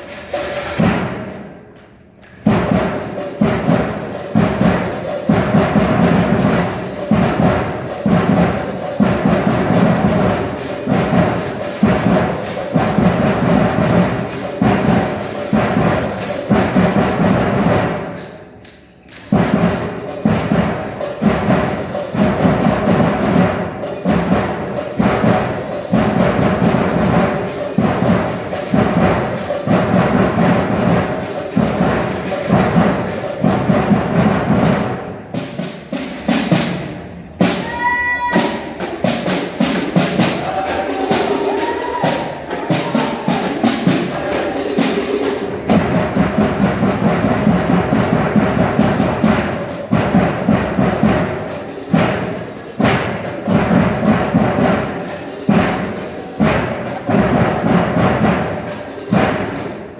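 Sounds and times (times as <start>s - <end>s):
percussion band drumming: 0.0s - 59.9s.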